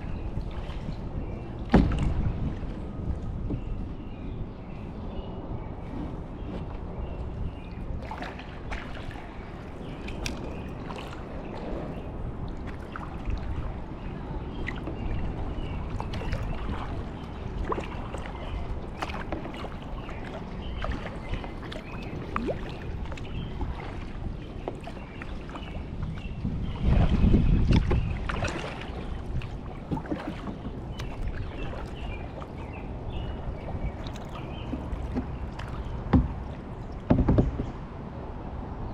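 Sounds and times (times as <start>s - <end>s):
paddle dipping and water splashing: 0.0s - 38.7s.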